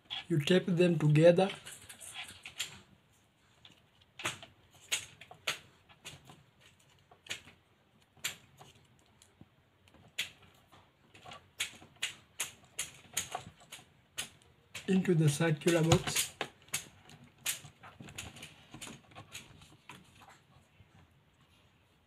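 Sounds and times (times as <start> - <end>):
clicks and taps handling wires: 3.6 - 21.5.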